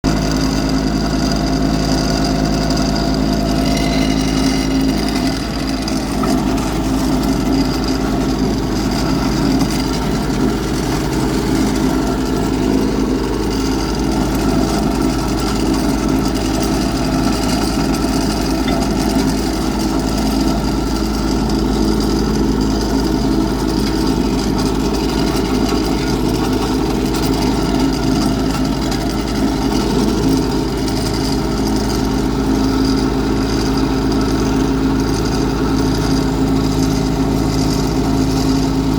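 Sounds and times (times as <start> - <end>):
roller engine running: 0.0 - 38.9.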